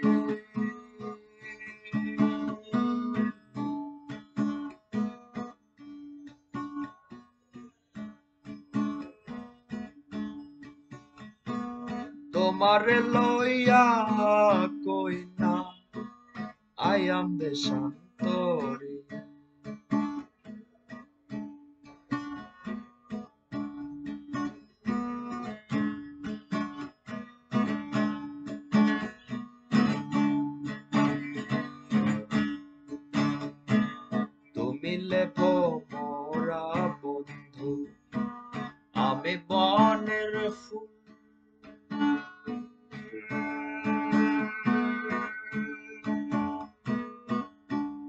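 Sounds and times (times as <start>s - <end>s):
acoustic guitar folk music: 0.0s - 48.0s.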